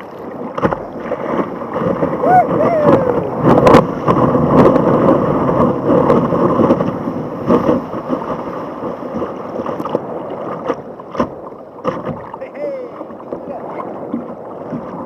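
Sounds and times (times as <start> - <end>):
surf rushing around kayak: 0.0 - 15.0
wind buffeting microphone: 0.0 - 15.0.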